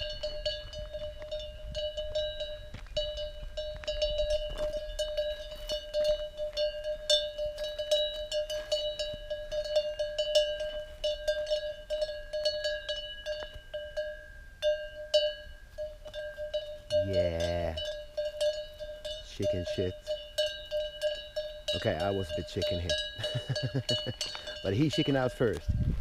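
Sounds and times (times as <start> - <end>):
cowbell clanking: 0.0 - 25.8.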